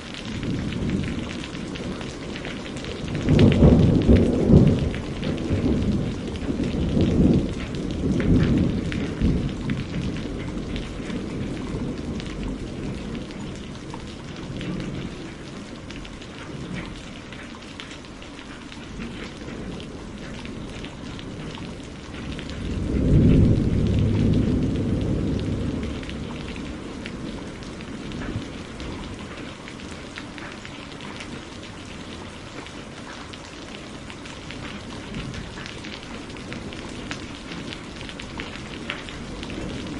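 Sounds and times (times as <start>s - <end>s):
steady rain falling: 0.0s - 39.9s
rolling thunder: 0.1s - 17.4s, 18.9s - 32.7s, 33.6s - 39.9s.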